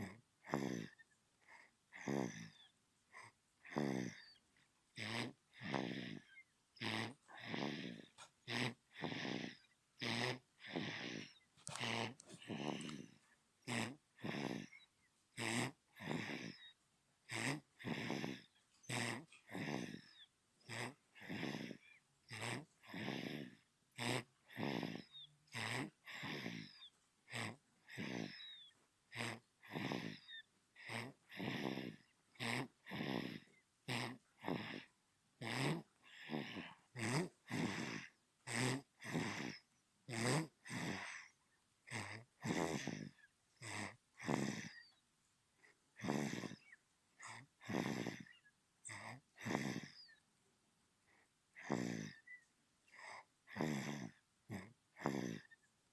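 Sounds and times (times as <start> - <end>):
baby snoring: 0.0 - 45.0, 45.6 - 50.2, 51.1 - 55.6.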